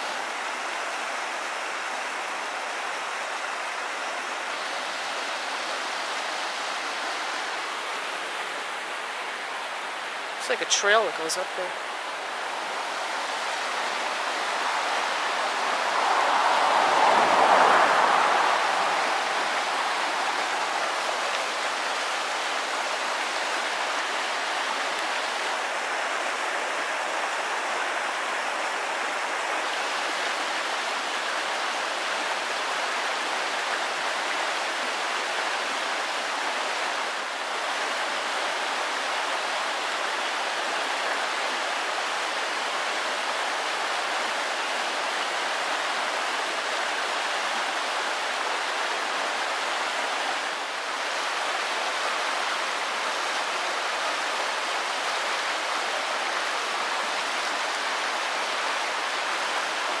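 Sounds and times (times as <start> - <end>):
water rushing over rocks: 0.0 - 60.0.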